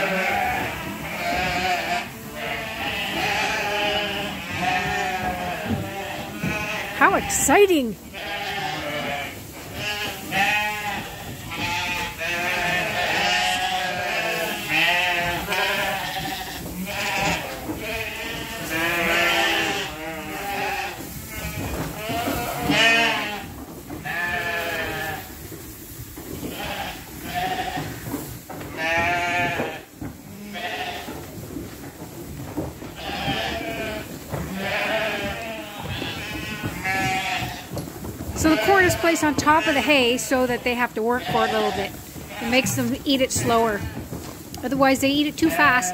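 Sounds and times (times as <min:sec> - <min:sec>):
sheep bleating: 0:00.0 - 0:25.3, 0:26.5 - 0:28.0, 0:28.7 - 0:31.1, 0:33.0 - 0:37.7, 0:38.4 - 0:44.0, 0:45.4 - 0:45.9.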